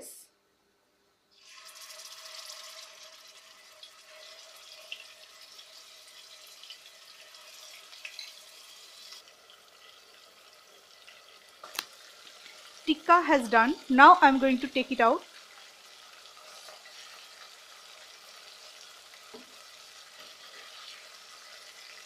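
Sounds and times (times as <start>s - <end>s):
chicken frying in hot oil: 1.3s - 22.0s.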